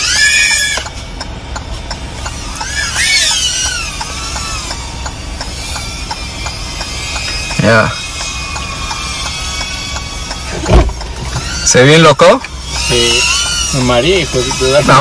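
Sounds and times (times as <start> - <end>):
drone propellers whining: 0.0 - 15.0
faint regular ticking: 0.1 - 15.0.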